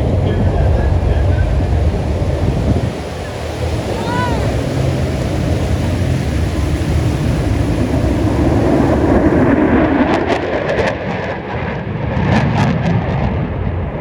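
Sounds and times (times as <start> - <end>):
aircraft engine rumble flying past: 0.0 - 14.0.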